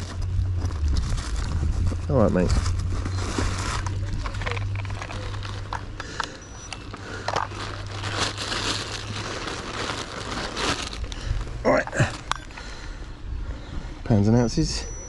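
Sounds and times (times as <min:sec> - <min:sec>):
plastic bag crinkling: 0:00.0 - 0:12.3
low steady hum: 0:00.0 - 0:15.0.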